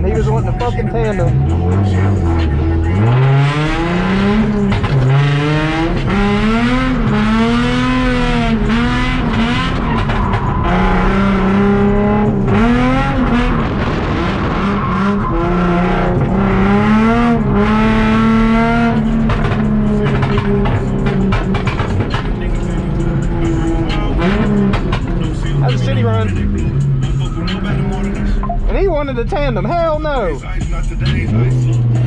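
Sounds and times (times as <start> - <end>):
car engine revving hard: 0.0 - 32.0.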